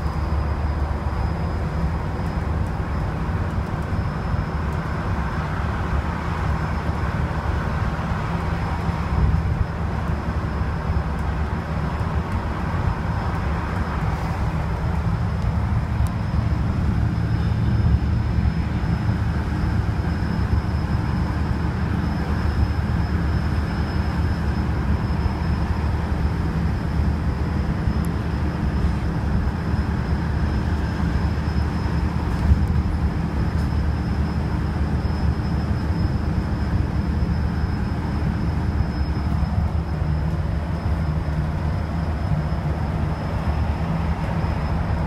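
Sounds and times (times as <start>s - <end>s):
bus engine drone and road rumble: 0.0s - 45.0s
faint high whine: 0.0s - 45.0s.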